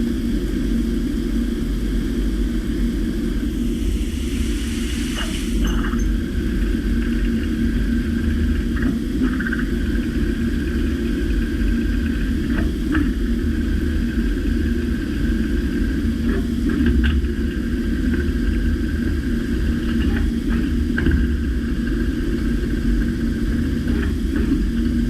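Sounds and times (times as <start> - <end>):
milling machine rumble and whine: 0.0 - 25.0.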